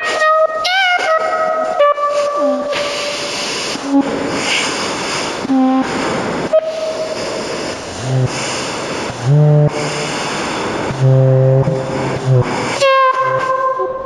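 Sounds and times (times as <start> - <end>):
horn-like tones: 0.0 - 4.7, 5.4 - 14.0
noisy rumbling: 0.0 - 14.0.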